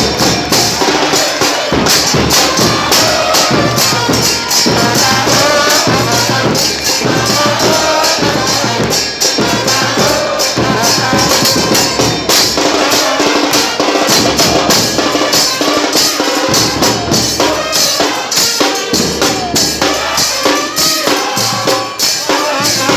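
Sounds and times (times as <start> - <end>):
crowd singing a chant: 0.0 - 22.9
drums beating a rhythm: 0.0 - 22.9.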